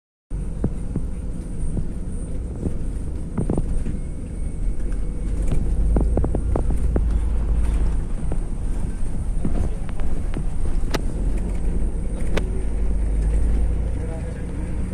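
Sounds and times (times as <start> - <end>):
vehicle rumble in motion: 0.3 - 14.9.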